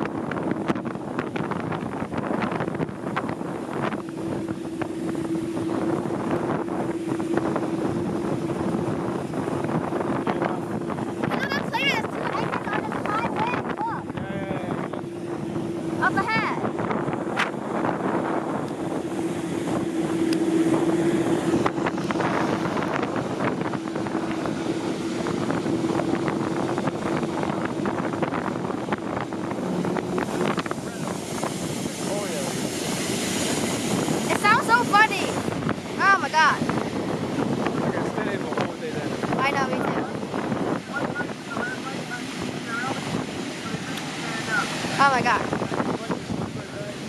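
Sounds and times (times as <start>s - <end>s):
engine drone: 0.0s - 47.0s
wind buffeting microphone: 0.0s - 47.0s.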